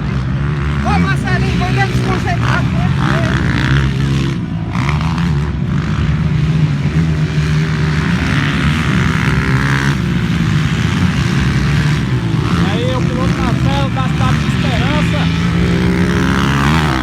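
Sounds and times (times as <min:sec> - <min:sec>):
motocross bike engines droning: 0:00.0 - 0:17.0.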